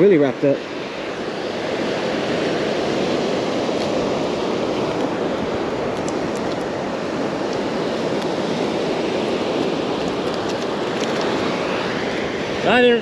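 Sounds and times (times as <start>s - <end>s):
wind noise on microphone: 0.7s - 13.0s.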